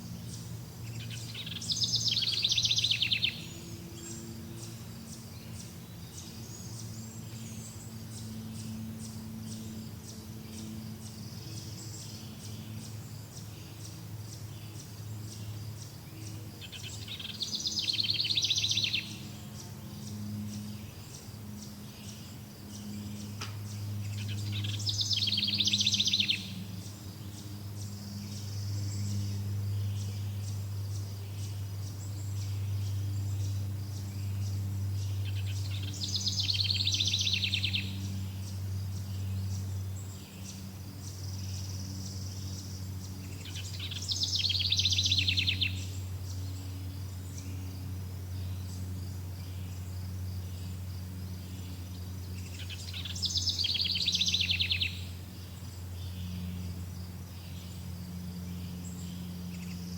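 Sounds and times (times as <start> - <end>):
low steady hum: 0.0 - 59.9
songbird singing trilled phrase: 0.2 - 59.9.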